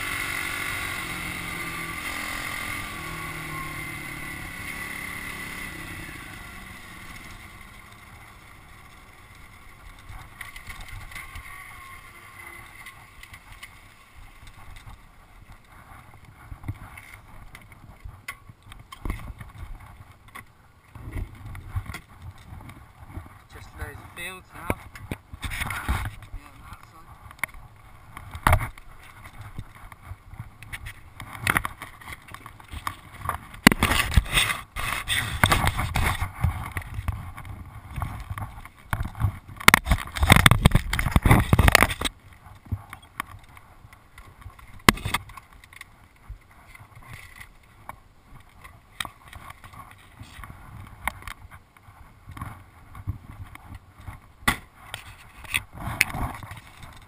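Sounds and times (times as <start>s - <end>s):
knocks and rattles of a motorbike: 0.0s - 57.0s.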